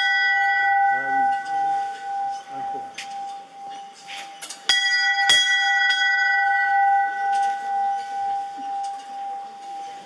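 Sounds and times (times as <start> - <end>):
small bell ringing: 0.0 - 10.0.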